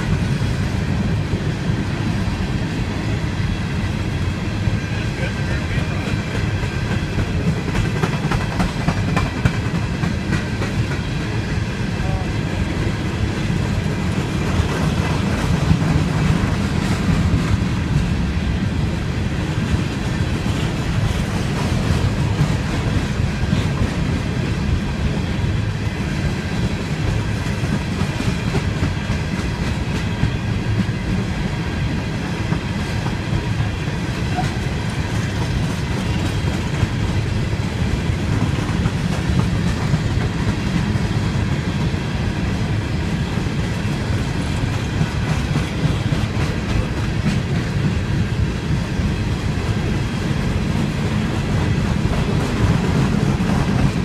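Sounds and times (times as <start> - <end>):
freight train rumbling past: 0.0 - 54.0
wheels clicking over rail joints: 4.0 - 18.2, 18.8 - 48.4.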